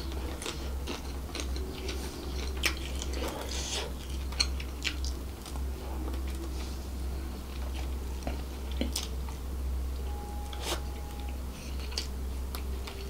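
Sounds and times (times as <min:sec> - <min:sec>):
chewing food: 0:00.0 - 0:09.4, 0:10.5 - 0:13.0.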